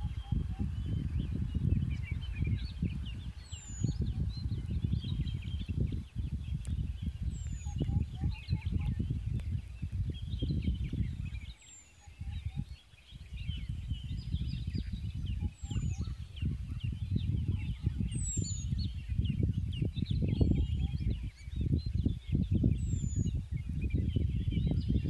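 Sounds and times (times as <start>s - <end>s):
small birds chirping: 0.0s - 25.0s
wind buffeting microphone: 0.0s - 25.0s.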